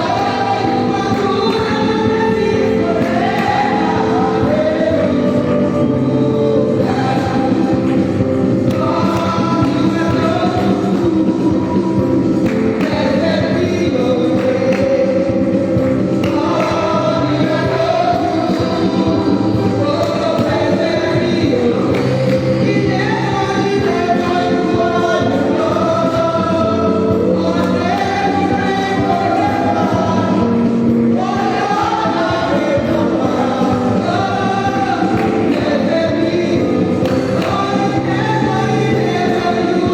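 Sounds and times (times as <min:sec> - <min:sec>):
group singing gospel: 0:00.0 - 0:39.9.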